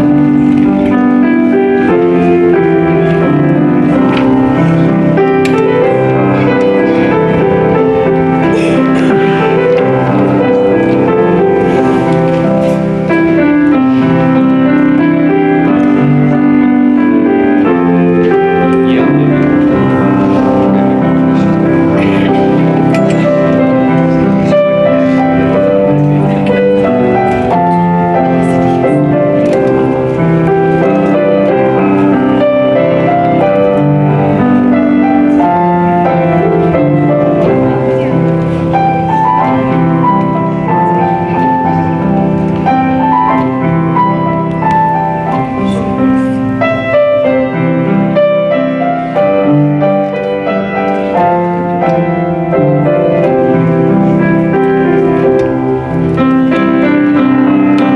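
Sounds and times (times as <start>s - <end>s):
piano chords and melody: 0.0s - 57.9s.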